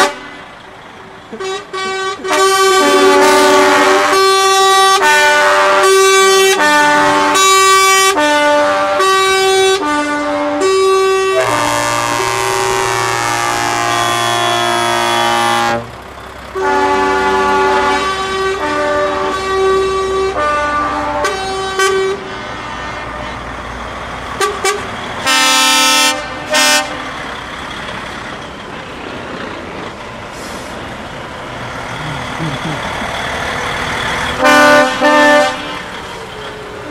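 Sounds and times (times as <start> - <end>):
truck air horns: 0.0 - 0.6, 1.3 - 28.0, 30.3 - 31.0, 31.7 - 36.9
road noise: 0.0 - 36.9
truck engines rumbling: 0.0 - 36.9.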